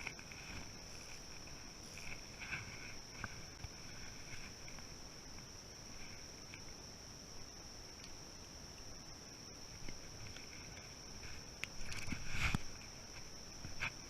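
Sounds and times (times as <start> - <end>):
insects trilling: 0.0 - 14.0
small ticks: 0.0 - 14.0.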